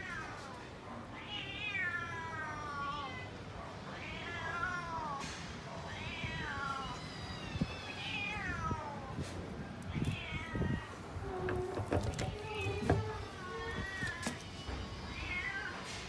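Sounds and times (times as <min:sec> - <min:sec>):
cats meowing: 0:00.0 - 0:16.0.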